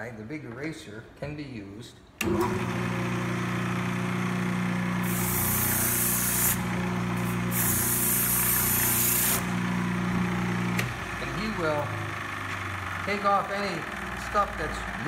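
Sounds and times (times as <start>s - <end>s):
drum sander humming: 2.2s - 15.0s.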